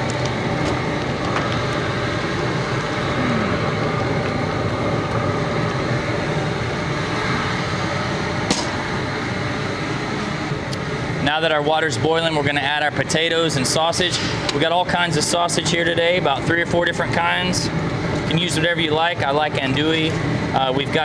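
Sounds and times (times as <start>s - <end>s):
gas burner roaring: 0.0s - 21.0s.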